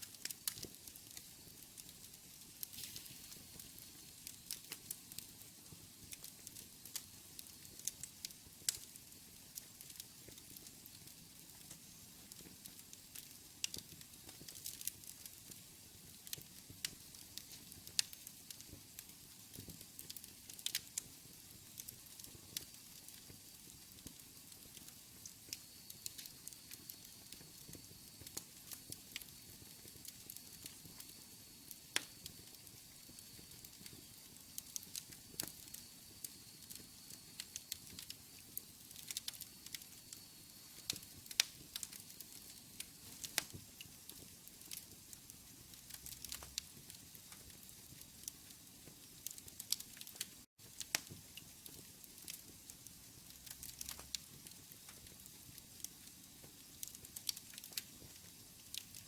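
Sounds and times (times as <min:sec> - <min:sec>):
fire hissing: 0:00.0 - 0:59.0
wood fire crackling and popping: 0:00.0 - 0:59.0.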